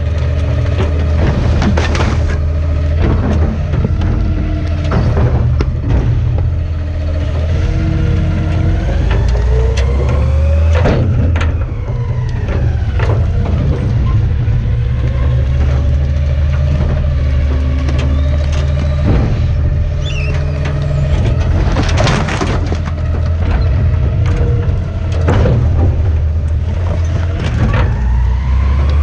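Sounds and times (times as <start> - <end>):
hydraulic whine: 0.0 - 29.0
trash being crushed: 0.0 - 29.0
truck engine under load: 0.0 - 29.0.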